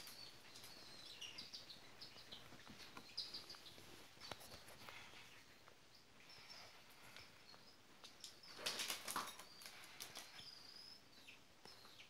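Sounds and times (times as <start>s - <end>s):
chicks cheeping: 0.0s - 12.0s.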